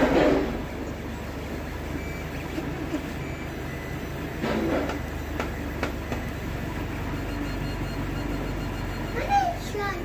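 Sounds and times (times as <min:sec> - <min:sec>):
printer motors humming and whirring: 0:00.0 - 0:10.0.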